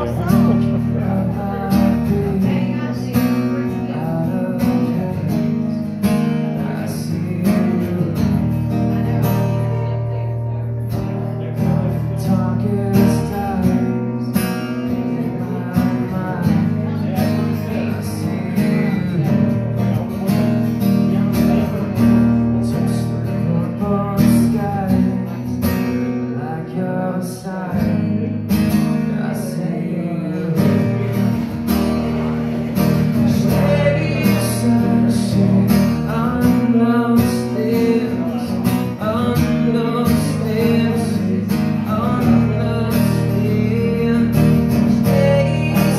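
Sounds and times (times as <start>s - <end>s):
acoustic guitar strumming: 0.0s - 45.9s
man singing: 0.0s - 45.9s.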